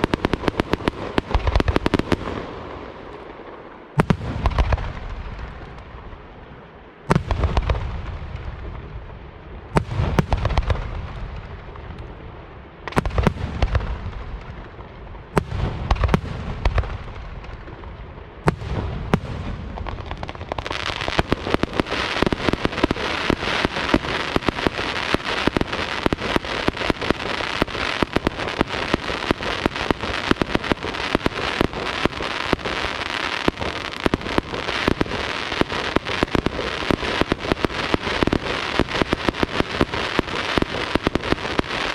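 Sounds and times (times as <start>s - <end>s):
firework booms with echo: 0.0s - 6.0s, 7.1s - 12.0s, 12.8s - 41.9s
dense firework crackling: 0.0s - 41.9s.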